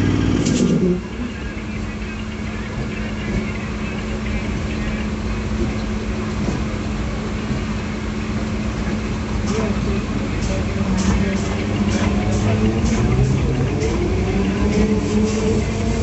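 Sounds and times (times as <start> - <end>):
constant hum: 0.0 - 16.0
train coach rumbling on track: 0.0 - 16.0.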